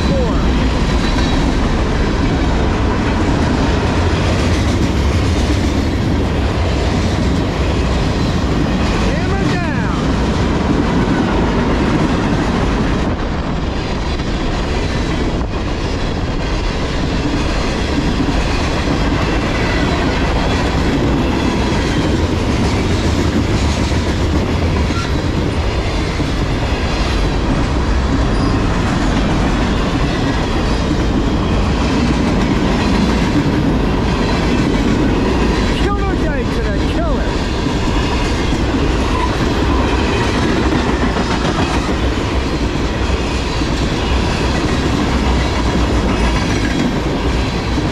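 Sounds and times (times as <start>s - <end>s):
freight train rolling past: 0.0s - 47.9s.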